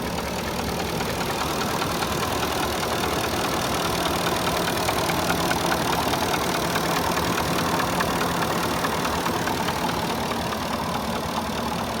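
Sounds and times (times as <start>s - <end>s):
car engine idling: 0.0s - 12.0s
light engine knocking: 0.0s - 12.0s.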